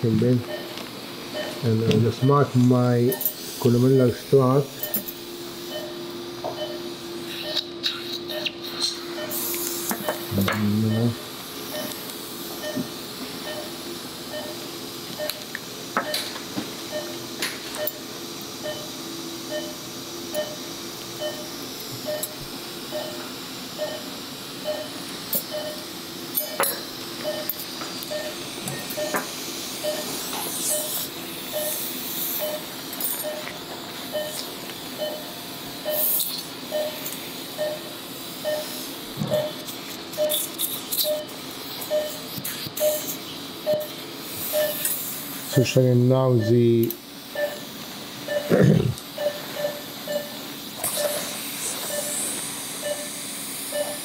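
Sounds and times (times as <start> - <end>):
steady hum and hiss: 0.0 - 54.0
patient monitor beeps: 0.4 - 3.2, 4.8 - 12.0, 12.6 - 44.9, 45.5 - 46.7, 47.3 - 54.0.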